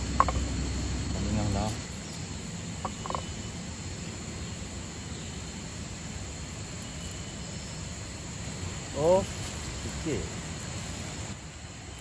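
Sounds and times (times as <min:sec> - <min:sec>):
insects: 0:00.0 - 0:12.0
shallow stream hissing: 0:00.0 - 0:12.0.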